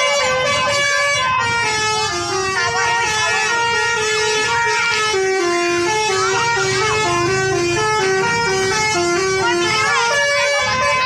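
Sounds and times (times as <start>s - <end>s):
bus horn playing a tune: 0.0s - 11.0s.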